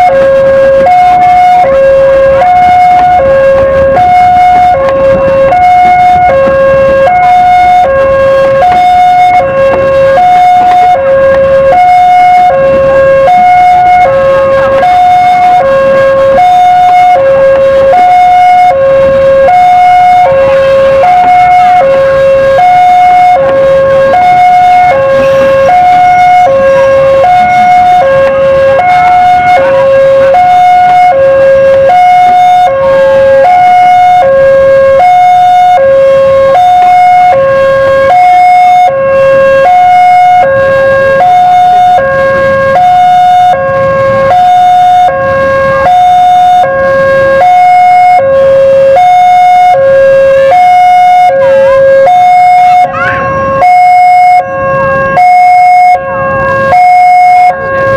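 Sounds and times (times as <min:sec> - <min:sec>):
level-crossing two-tone alarm: 0:00.0 - 0:57.9.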